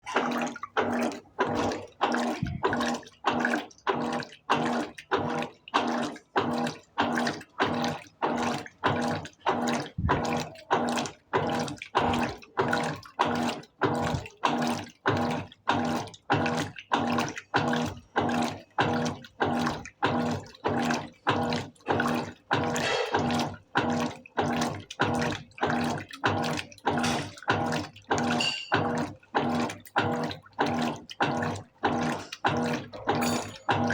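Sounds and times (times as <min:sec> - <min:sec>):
washing machine motor hum: 0:00.0 - 0:33.9
washing machine water sloshing: 0:00.0 - 0:33.9.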